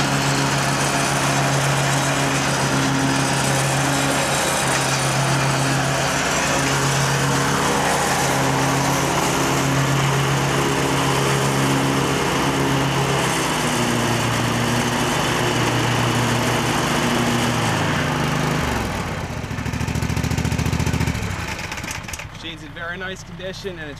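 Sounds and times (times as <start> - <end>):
lawn mower engine running: 0.0 - 23.9.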